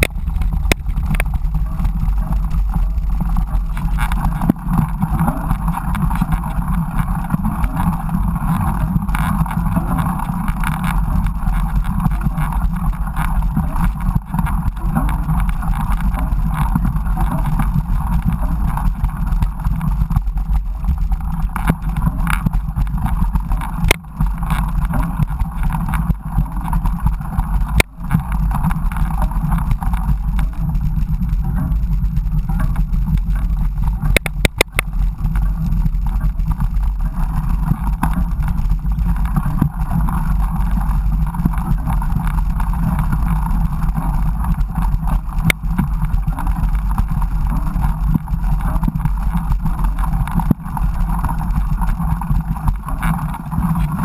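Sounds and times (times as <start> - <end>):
bike tyres rumbling on dirt: 0.0 - 54.0.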